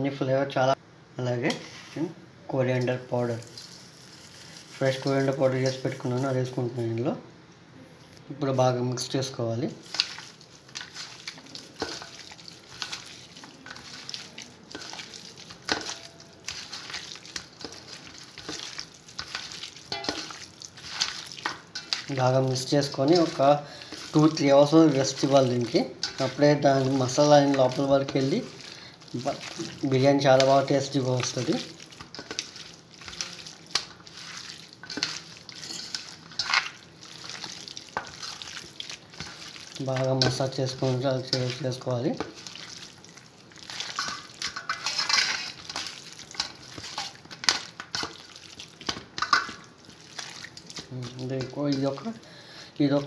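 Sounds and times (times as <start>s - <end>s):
hand squishing meat in marinade: 9.6s - 52.2s.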